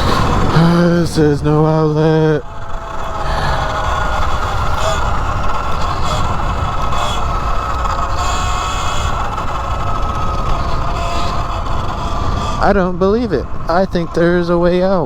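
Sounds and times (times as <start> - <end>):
electric motor whining: 0.0 - 15.0
wind rumbling on microphone: 0.0 - 15.0.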